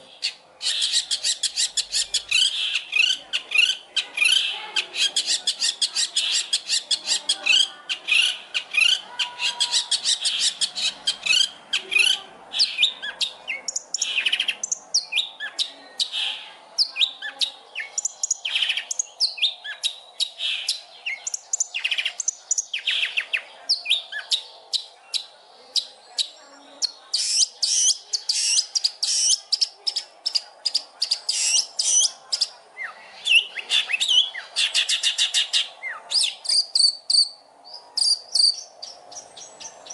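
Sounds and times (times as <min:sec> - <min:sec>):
shrike singing chirps and trills: 0:00.0 - 0:39.9.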